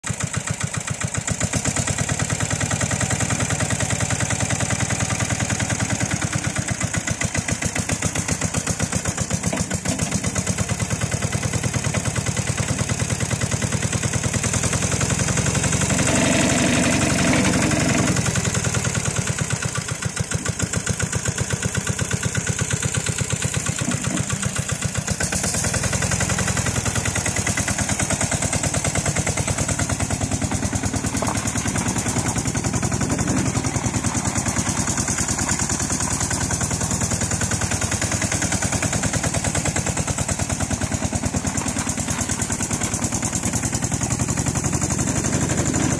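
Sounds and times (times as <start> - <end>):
diesel engine chugging: 0.0 - 45.9.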